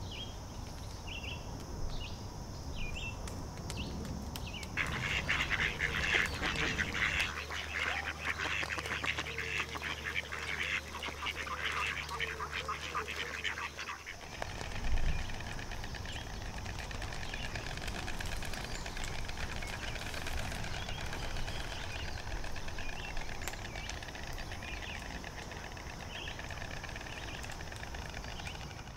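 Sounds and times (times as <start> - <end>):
low rumble and hiss: 0.0 - 28.9.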